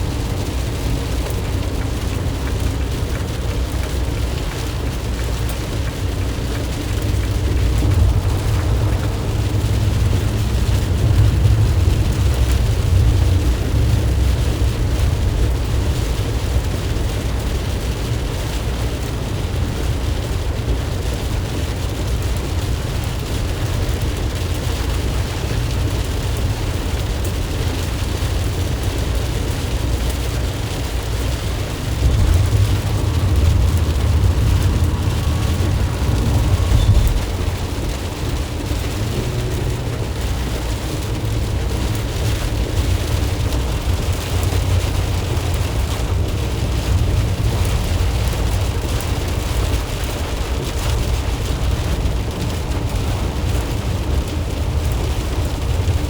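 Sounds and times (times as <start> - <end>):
engine and road rumble: 0.0 - 56.0
rain and wet tyres hissing: 0.0 - 56.0.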